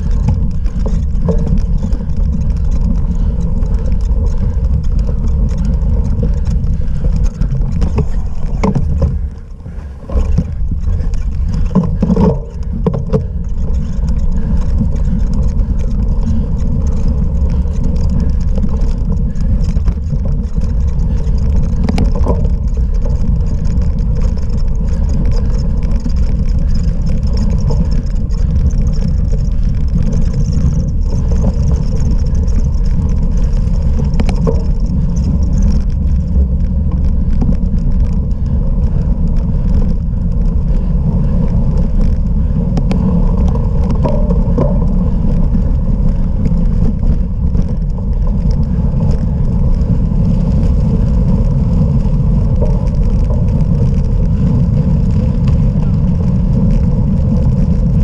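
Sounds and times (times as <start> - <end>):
bike clicks and rattles: 0.0 - 58.0
wind rumble on microphone: 0.0 - 58.0.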